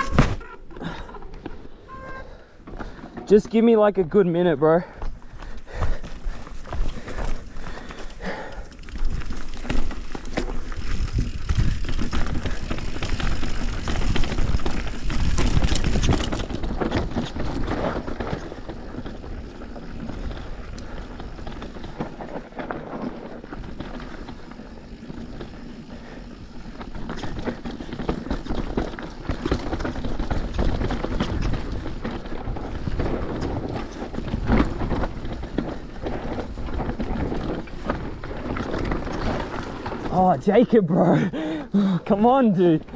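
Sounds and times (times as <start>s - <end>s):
bike tyres skidding over dirt: 0.0s - 41.4s
bike rattling over bumps: 0.0s - 42.9s.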